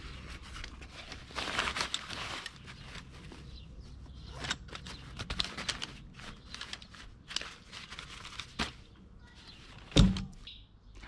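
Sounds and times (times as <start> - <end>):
fabric rustling: 0.0 - 9.9.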